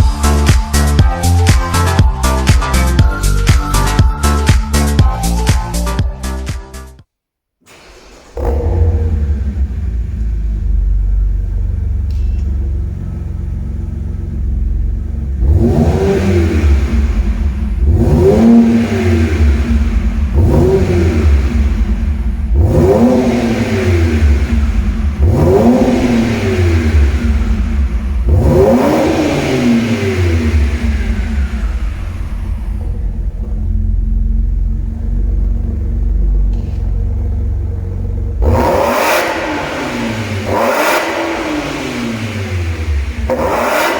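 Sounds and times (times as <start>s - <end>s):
car exhaust idling and revving: 0.0s - 6.5s, 7.8s - 43.9s.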